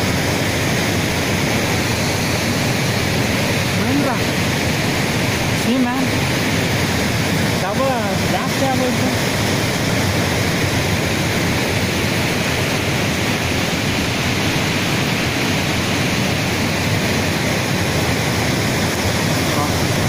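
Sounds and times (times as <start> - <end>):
flooded river rushing over rocks: 0.0 - 20.0.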